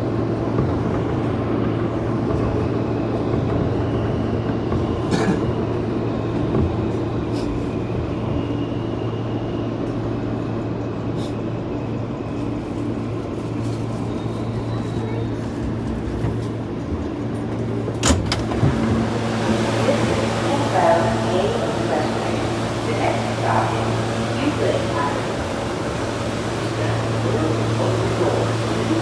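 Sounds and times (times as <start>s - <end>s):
subway train rumble: 0.0s - 29.0s.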